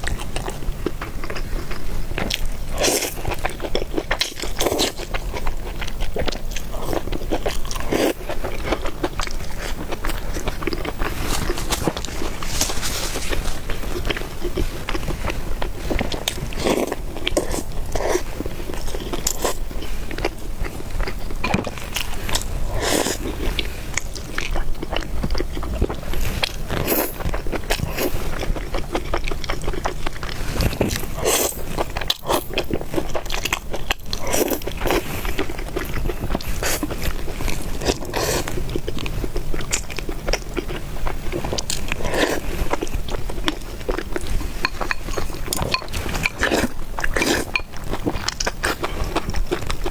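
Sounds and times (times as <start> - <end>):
person eating noodles: 0.0 - 49.9.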